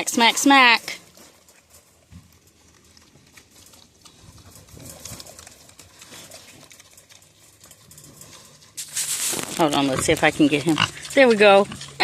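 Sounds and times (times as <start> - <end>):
animal chewing and smacking: 0.8 - 12.0.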